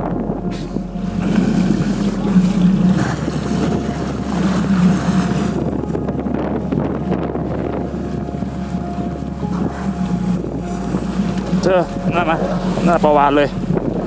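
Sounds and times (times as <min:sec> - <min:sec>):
motorboat engine humming: 0:00.0 - 0:14.0
wind on microphone: 0:00.0 - 0:14.0.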